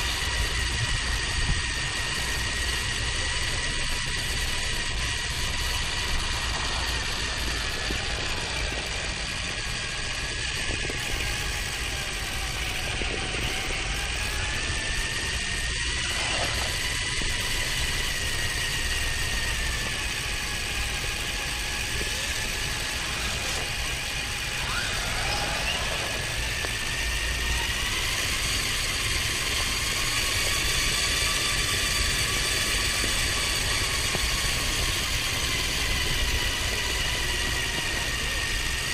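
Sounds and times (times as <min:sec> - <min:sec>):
steady rumble: 0:00.0 - 0:38.9
toy car electric motor whining: 0:00.0 - 0:38.9.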